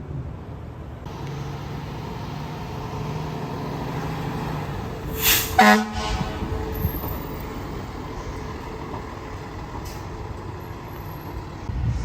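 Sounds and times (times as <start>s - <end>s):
fire truck engine running: 1.0s - 11.7s.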